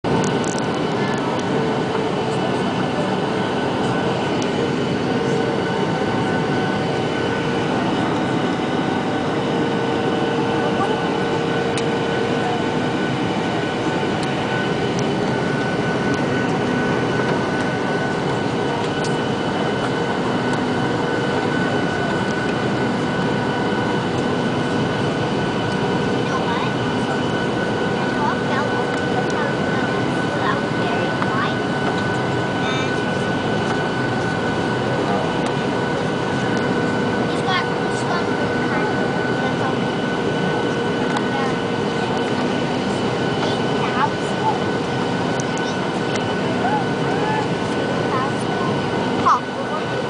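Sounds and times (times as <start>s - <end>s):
jet engine cabin drone: 0.0s - 50.0s
whining engine tones: 0.1s - 50.0s.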